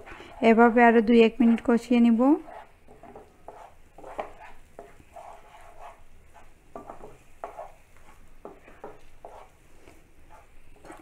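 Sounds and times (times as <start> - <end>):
utensil scraping a pan: 0.0 - 0.8, 2.4 - 11.0.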